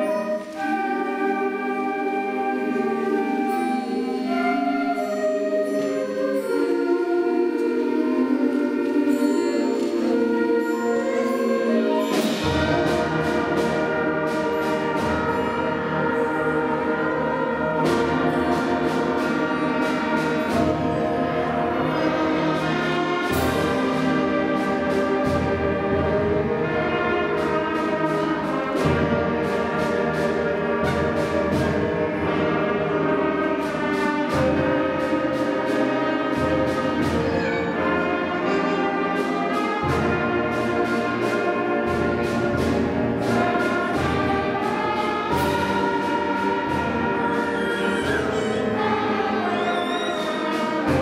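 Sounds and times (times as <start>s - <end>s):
concert band playing a ballad: 0.0s - 51.0s.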